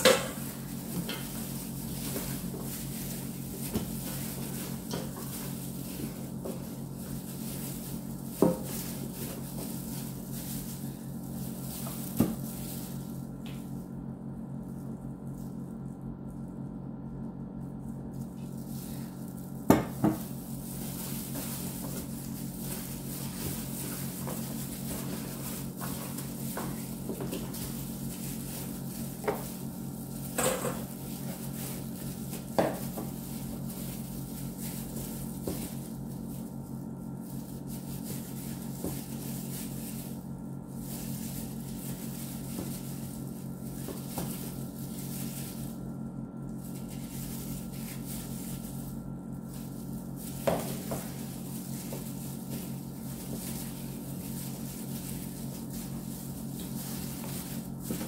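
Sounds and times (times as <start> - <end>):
hands mixing chicken in marinade: 0.0 - 13.7, 17.5 - 58.0
steady low hum: 0.0 - 58.0.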